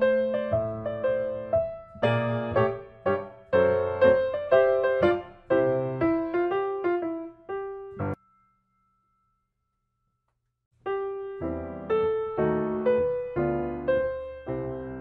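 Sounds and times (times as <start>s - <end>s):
piano melody: 0.0s - 8.4s, 10.8s - 15.0s.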